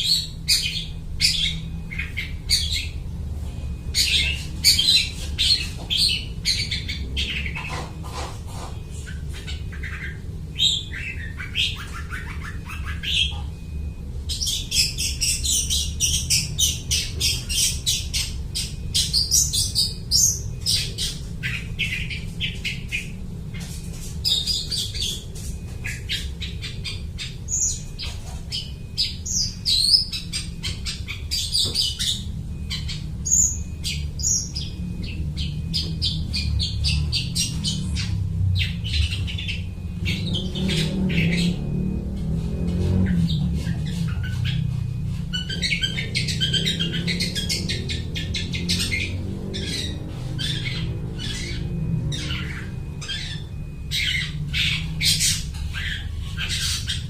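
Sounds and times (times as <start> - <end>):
bird singing chattering song: 0.0 - 57.0
steady low hum: 0.0 - 57.0.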